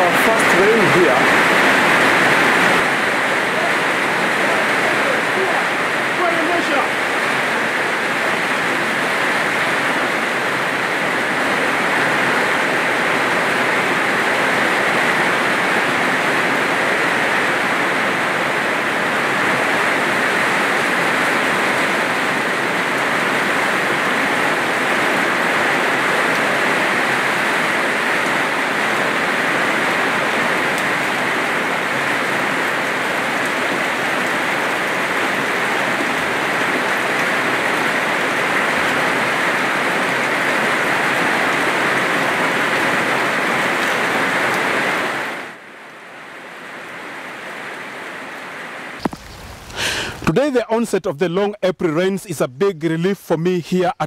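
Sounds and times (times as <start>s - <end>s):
heavy rain falling: 0.0s - 52.2s.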